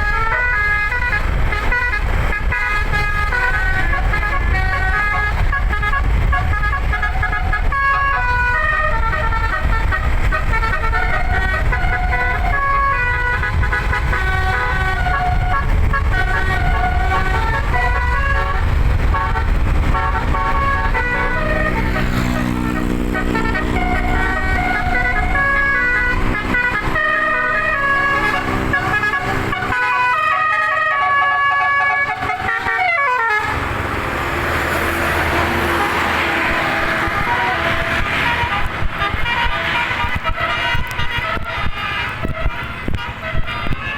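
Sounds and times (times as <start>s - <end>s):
musical air horn playing a tune: 0.0s - 43.9s.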